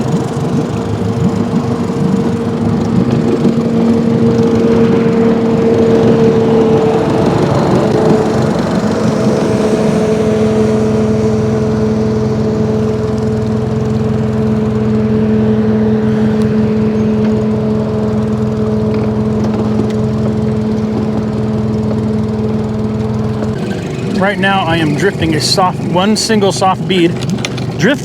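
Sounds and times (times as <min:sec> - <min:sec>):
outboard motor droning: 0:00.0 - 0:28.0.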